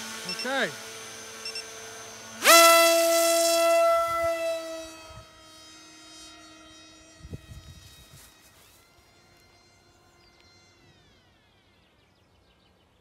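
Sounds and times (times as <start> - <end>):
electric motor high whine: 0.0 - 13.0.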